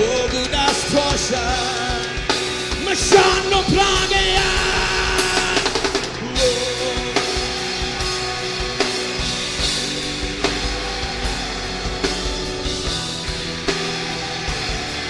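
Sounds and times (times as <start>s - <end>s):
rock band playing: 0.0s - 15.0s
sharp drum hits: 2.7s - 15.0s.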